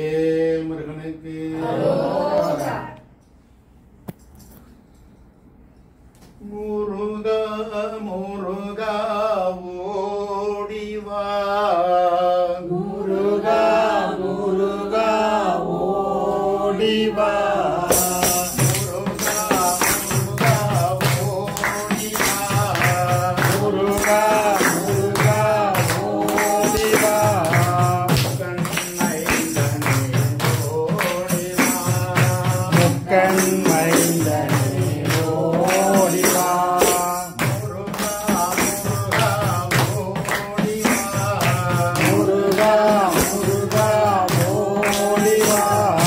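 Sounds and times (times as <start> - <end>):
man singing devotional song: 0.0 - 1.7, 6.4 - 13.7, 16.8 - 46.0.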